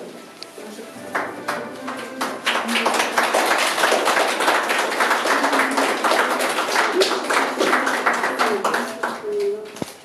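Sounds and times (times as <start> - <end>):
group applauding: 1.0 - 9.8.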